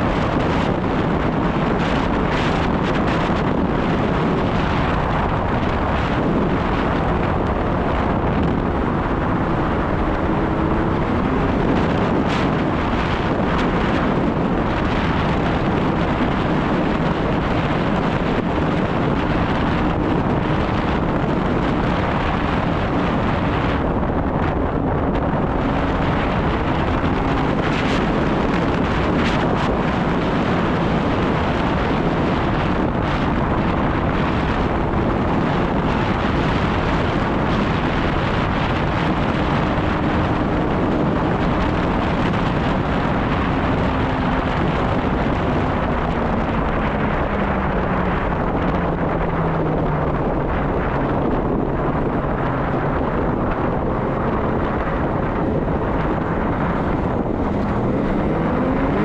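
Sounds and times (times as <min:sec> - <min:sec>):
snowmobile engine running: 0:00.0 - 0:59.0
wind buffeting microphone: 0:00.0 - 0:59.0.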